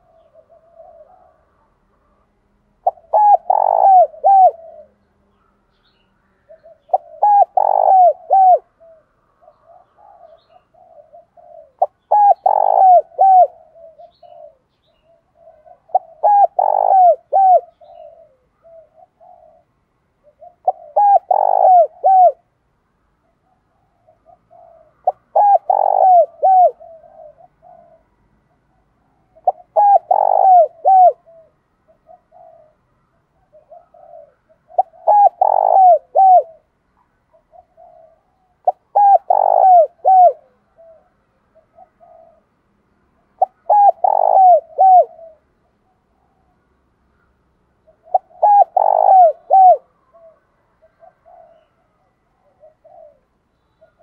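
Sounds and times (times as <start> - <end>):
dove cooing: 0.0 - 5.8, 6.4 - 22.6, 23.2 - 42.6, 43.2 - 54.0.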